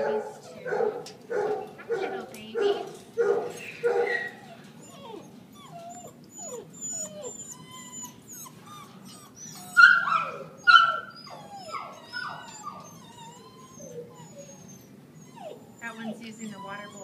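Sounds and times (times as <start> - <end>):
dogs whining and whimpering: 0.0 - 0.8, 1.9 - 17.0
dog yelps: 0.1 - 17.0.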